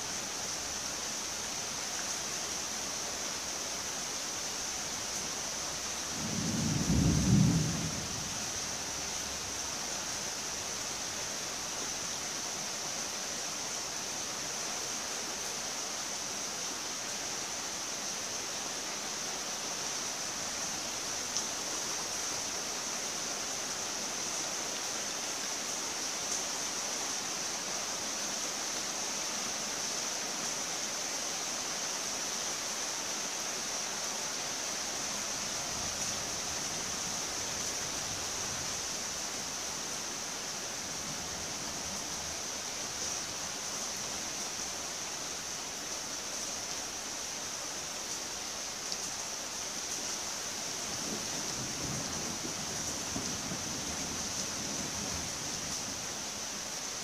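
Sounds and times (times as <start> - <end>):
rain hissing: 0.0 - 57.0.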